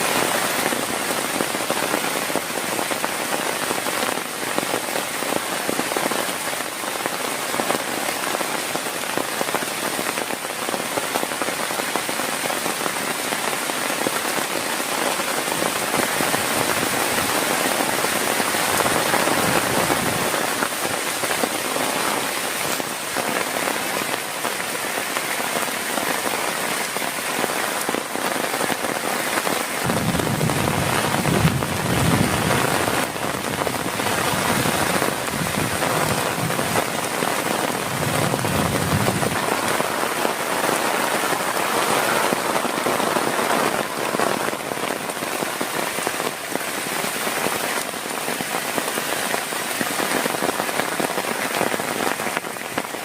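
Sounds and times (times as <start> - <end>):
heavy rain drumming: 0.0 - 53.0.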